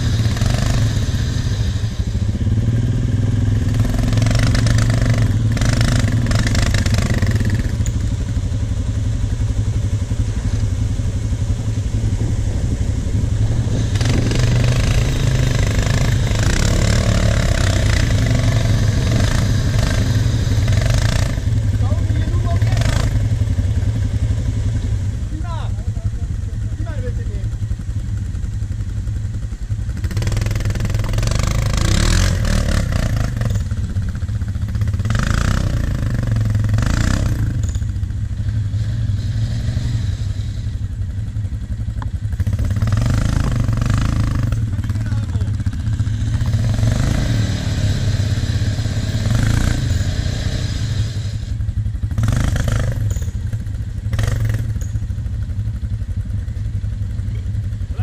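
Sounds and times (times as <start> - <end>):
low engine rumble: 0.0 - 58.0
quad bike engine revving: 0.0 - 58.0.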